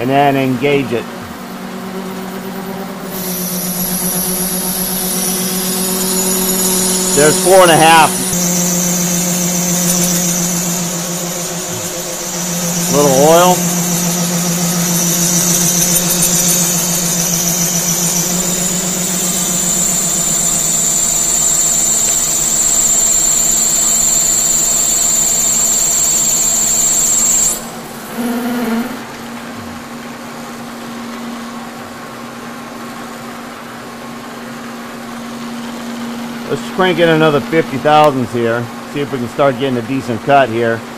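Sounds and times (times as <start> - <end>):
lathe cutting steel high whine: 0.0 - 40.9
machine running with low hum: 0.0 - 40.9.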